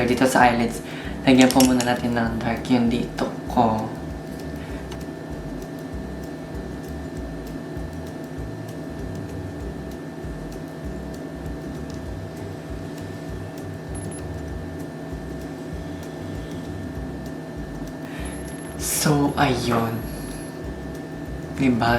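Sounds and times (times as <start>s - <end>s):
appliance humming: 0.0s - 21.9s
faint ticks: 0.0s - 21.9s.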